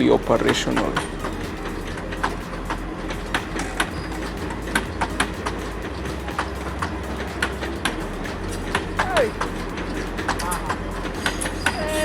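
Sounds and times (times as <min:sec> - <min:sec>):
train rumbling on rails: 0:00.0 - 0:12.0
wheels clacking over rail joints: 0:00.0 - 0:12.0.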